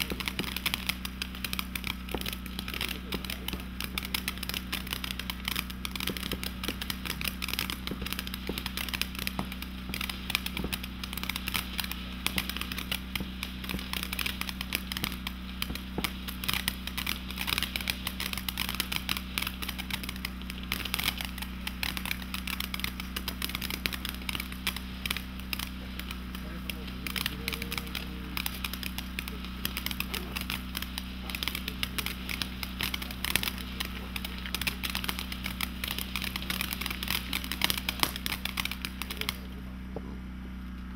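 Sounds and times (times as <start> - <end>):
firework fountain crackling: 0.0 - 40.9.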